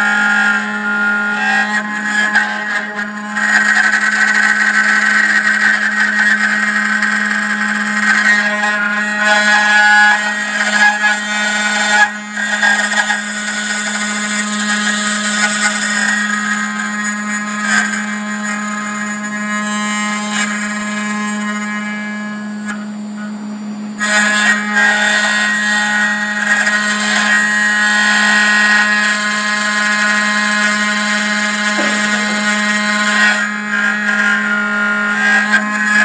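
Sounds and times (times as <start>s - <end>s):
end mill cutting metal: 0.0s - 36.0s
engraving machine spindle whine: 0.0s - 36.0s.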